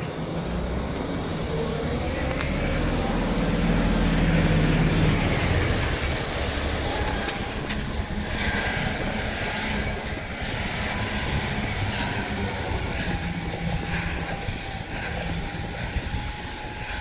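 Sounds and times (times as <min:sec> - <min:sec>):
refuse truck running: 0:00.0 - 0:17.0.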